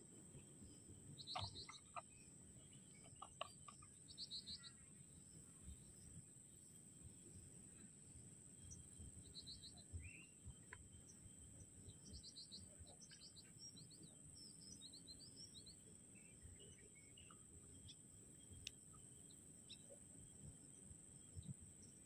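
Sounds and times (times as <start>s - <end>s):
insect drone: 0.0s - 22.0s
birds chirping: 0.1s - 22.0s.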